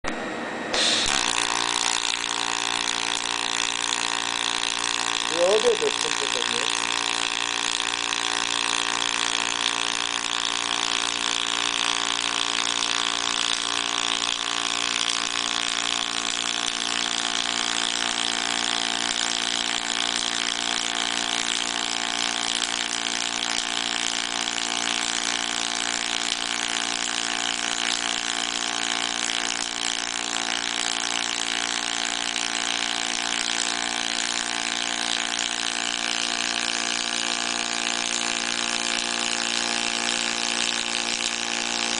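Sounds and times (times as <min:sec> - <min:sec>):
welding arc buzzing: 0:00.0 - 0:41.9.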